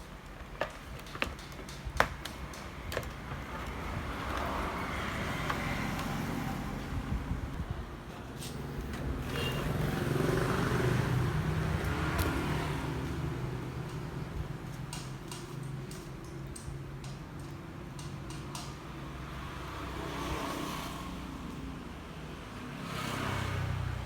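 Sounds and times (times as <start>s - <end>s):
vehicles passing on road: 0.0s - 24.0s.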